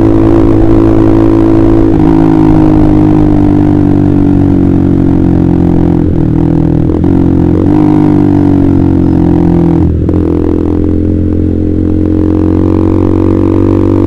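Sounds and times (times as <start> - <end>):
motorcycle engine at steady revs: 0.0 - 14.0.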